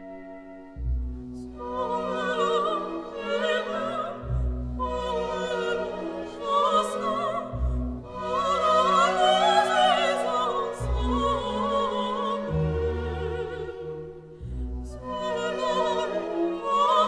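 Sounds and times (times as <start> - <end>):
orchestral accompaniment: 0.0 - 17.0
operatic singing: 1.3 - 17.0.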